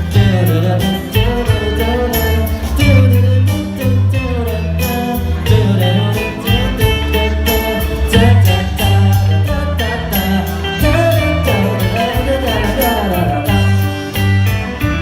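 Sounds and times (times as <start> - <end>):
bass and drums: 0.0 - 15.0
electric guitar lead: 0.0 - 15.0.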